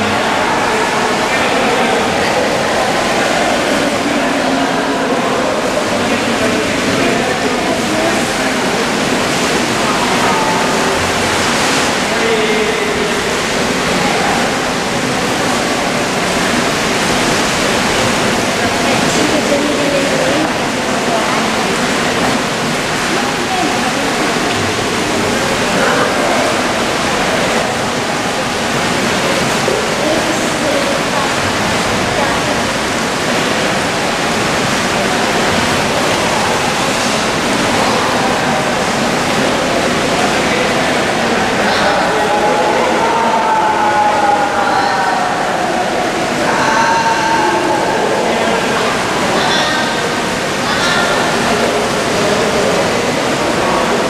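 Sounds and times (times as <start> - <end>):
faint voices: 0.0 - 54.0
rushing noise of swimming pool hall: 0.0 - 54.0.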